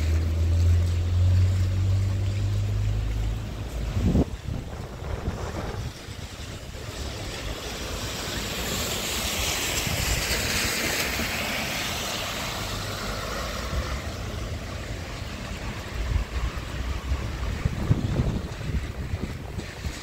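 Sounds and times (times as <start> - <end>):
car tyres hissing on wet asphalt: 0.0 - 20.0
low traffic rumble: 0.0 - 20.0.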